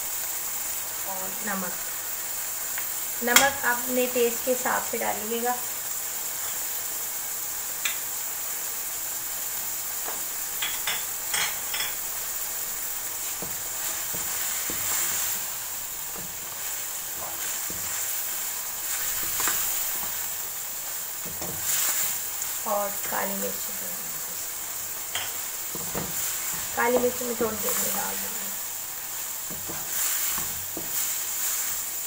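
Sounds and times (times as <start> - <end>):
meat sizzling in a wok: 0.0 - 32.0.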